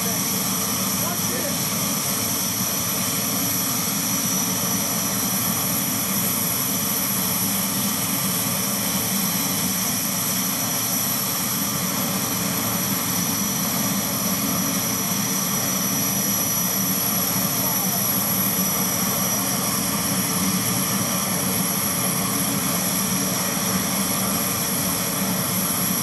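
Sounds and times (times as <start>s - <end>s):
turbine engine roaring: 0.0s - 26.0s.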